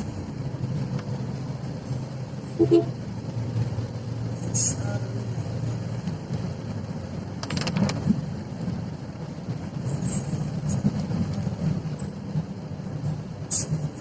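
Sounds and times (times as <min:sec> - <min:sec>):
vehicle rumbling: 0:00.0 - 0:14.0.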